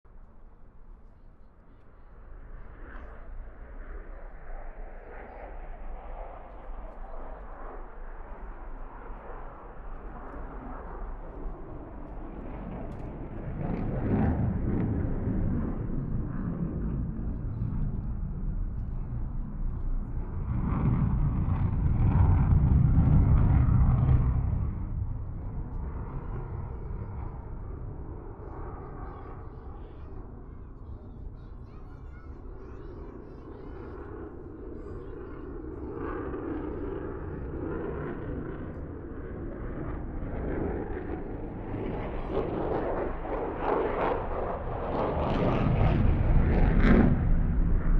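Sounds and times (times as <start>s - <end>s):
distant jet engine rumble: 0.1s - 47.9s.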